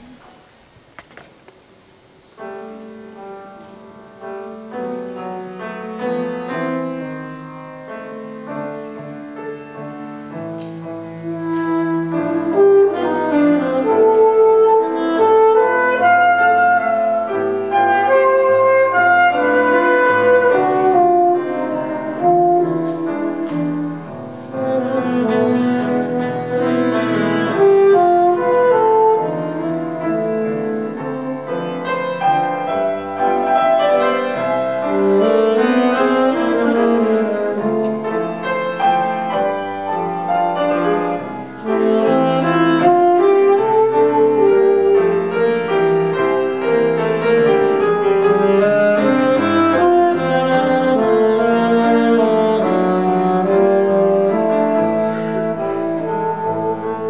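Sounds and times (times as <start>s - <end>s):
grand piano: 0.0s - 57.0s
saxophone: 10.6s - 57.0s.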